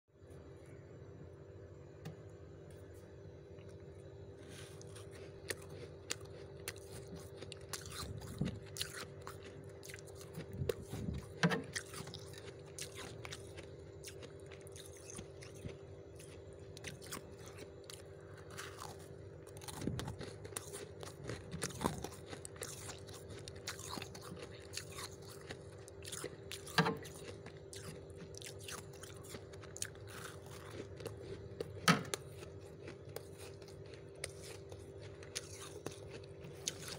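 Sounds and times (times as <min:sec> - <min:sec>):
steady hum: 0:00.1 - 0:36.9
frost being chewed crunching: 0:02.7 - 0:36.9.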